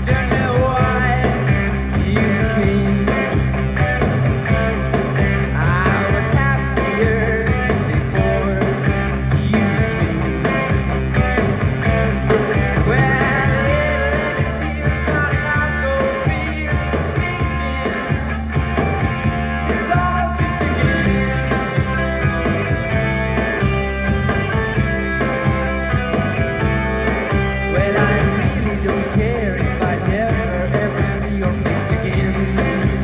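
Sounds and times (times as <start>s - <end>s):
rock and roll song with singing: 0.0s - 33.0s.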